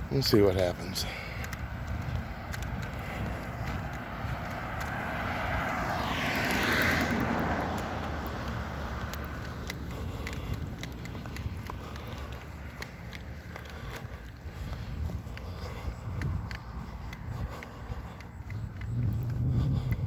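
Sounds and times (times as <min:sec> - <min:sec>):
traffic rumble: 0:00.0 - 0:20.0
vehicle passing: 0:00.0 - 0:20.0.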